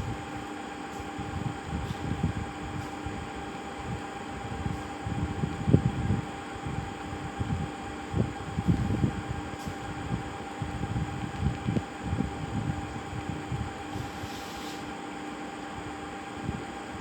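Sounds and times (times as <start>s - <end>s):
steady two-tone hum: 0.0s - 17.0s.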